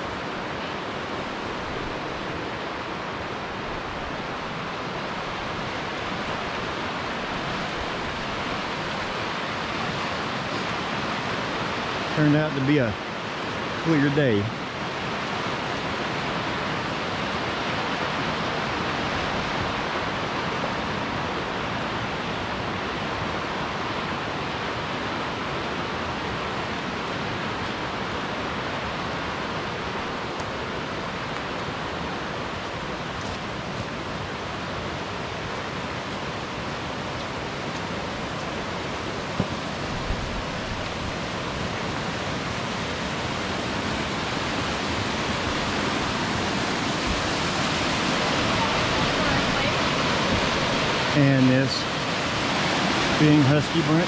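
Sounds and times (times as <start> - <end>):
river rushing over rapids: 0.0 - 54.0
small waterfall cascading: 0.0 - 54.0.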